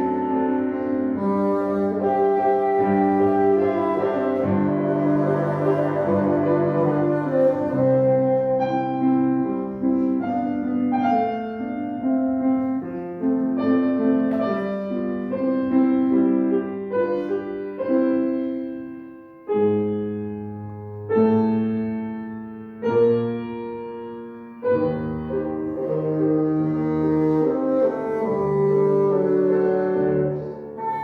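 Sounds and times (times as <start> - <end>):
piano melody over chords: 0.0 - 31.0.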